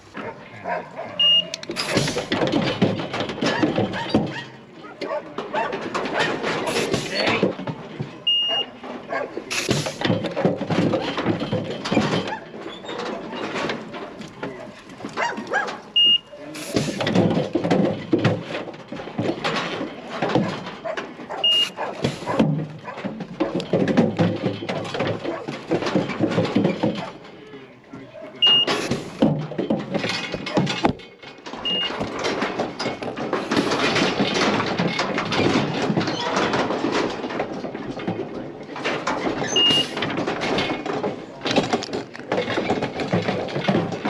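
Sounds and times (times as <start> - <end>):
rattling and knocking of crate: 0.0 - 44.0.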